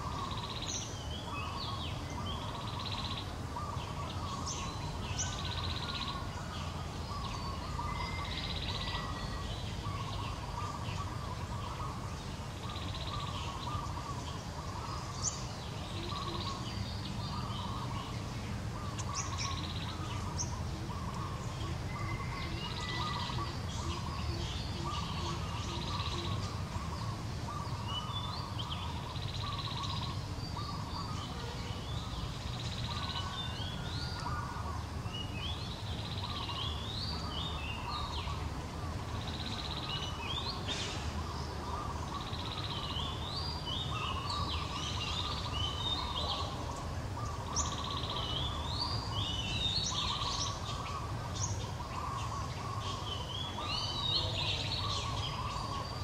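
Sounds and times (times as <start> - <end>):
birds calling: 0.0 - 56.0.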